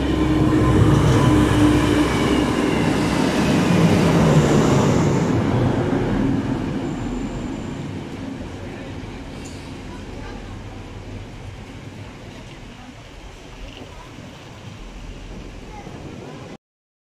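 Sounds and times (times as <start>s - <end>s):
diesel train passing: 0.0s - 16.6s.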